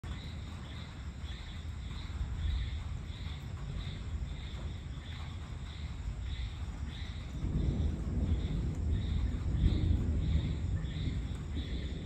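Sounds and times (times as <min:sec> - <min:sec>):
insects chirping: 0:00.0 - 0:12.0
steady low rumble: 0:00.0 - 0:12.0.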